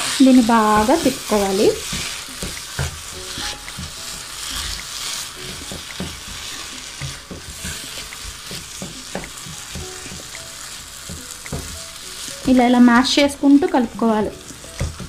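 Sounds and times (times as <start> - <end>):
wooden spatula scraping a pan: 0.0 - 13.3
food sizzling in a pan: 0.0 - 15.0.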